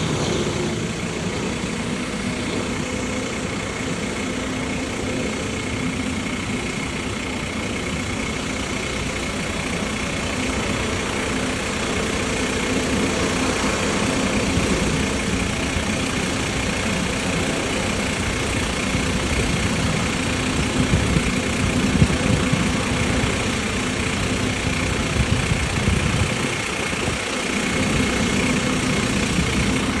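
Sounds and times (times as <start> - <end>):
engine running with faint whine: 0.0 - 30.0.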